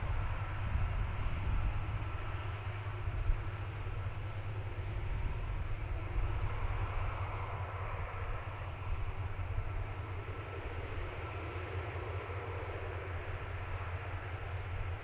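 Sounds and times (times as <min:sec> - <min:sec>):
jet aircraft engines rumbling: 0:00.0 - 0:15.0.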